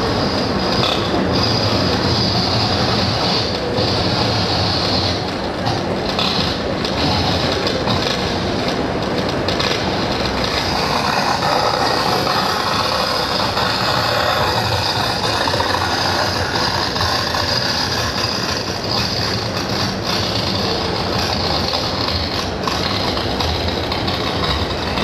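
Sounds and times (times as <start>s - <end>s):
loud mechanical rumble and hiss: 0.0s - 25.0s.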